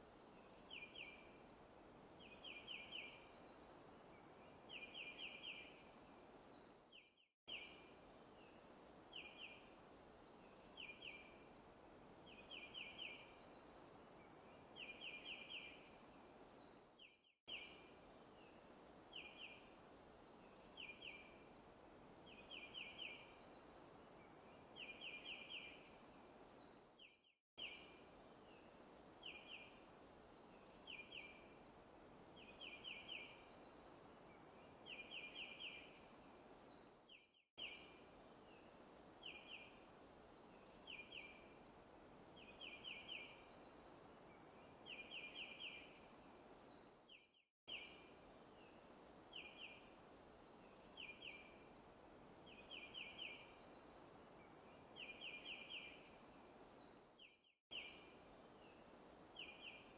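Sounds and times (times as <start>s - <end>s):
soft steady hiss: 0.0s - 59.9s.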